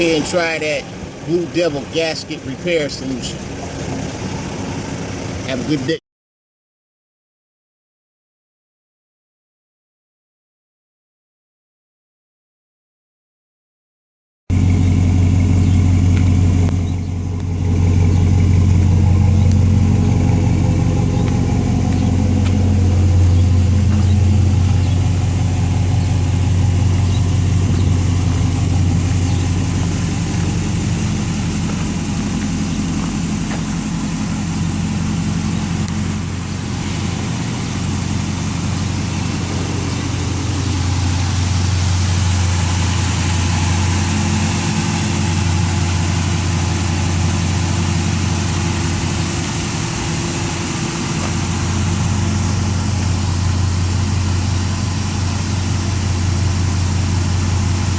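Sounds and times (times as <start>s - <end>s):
truck engine idling: 0.0s - 6.0s, 14.5s - 57.9s.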